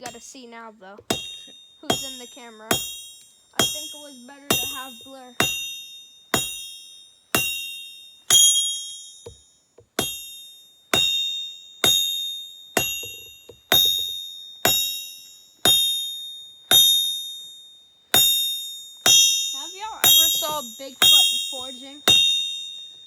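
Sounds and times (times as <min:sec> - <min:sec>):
hammer ringing on anvil: 0:01.0 - 0:23.0.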